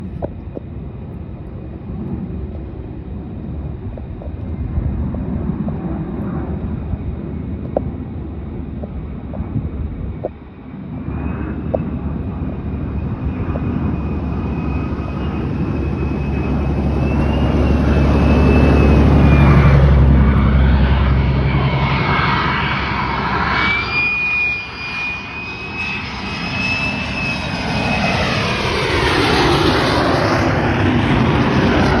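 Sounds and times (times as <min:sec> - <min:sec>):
jet engines rumbling and whining: 0:00.0 - 0:32.0.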